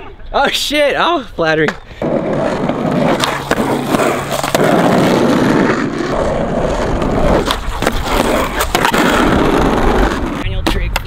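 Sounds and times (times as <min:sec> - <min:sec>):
skateboard wheels rolling on concrete: 0:00.4 - 0:11.0
skateboard clacks: 0:01.6 - 0:11.0.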